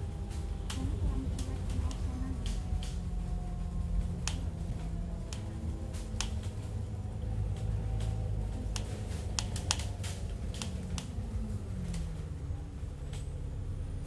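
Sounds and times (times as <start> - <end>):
vehicle rumble: 0.0 - 14.0.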